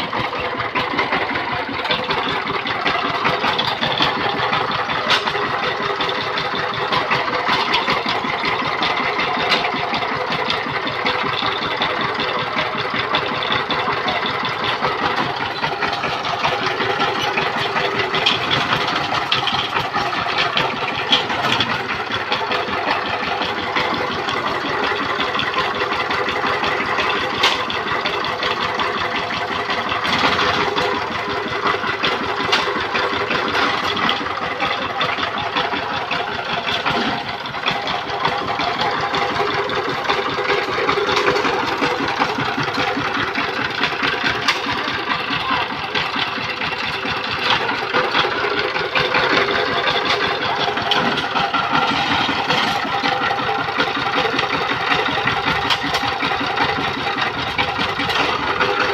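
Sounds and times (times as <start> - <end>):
diesel engine running steadily: 0.0 - 58.9.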